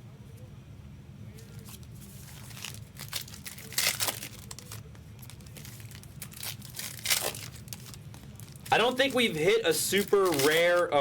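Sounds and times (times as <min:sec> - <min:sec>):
foil wrappers crinkling and tearing: 0:01.6 - 0:11.0.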